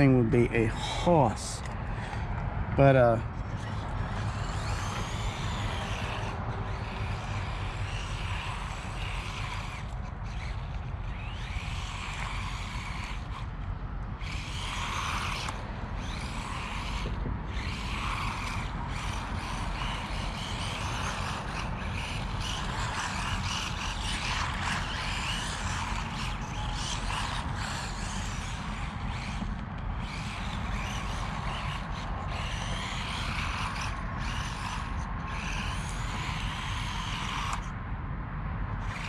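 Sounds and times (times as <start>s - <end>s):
toy car electric motor whining: 0.0s - 37.8s, 38.8s - 39.0s.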